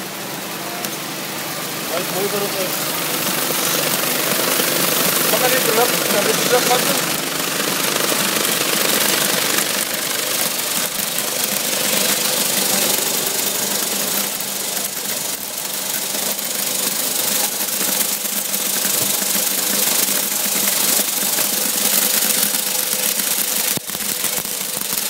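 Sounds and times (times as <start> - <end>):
vibrating screen hum: 0.0 - 25.0
plastic pellets rattling: 1.7 - 25.0.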